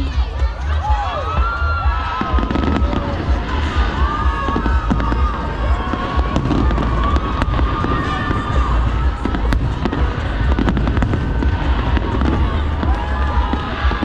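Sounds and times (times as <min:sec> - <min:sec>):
continuous deep rumble: 0:00.0 - 0:14.0
fireworks bangs and crackles: 0:01.4 - 0:14.0.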